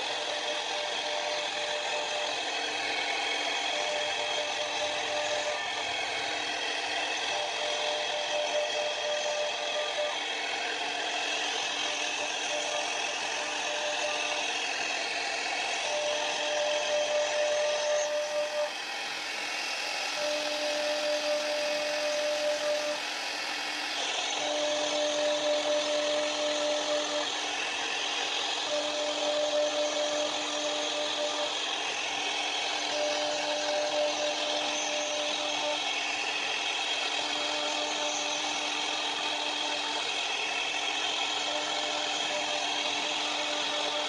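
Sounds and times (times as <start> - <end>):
router bit cutting wood: 0.0 - 44.0
steady hum: 0.0 - 44.0.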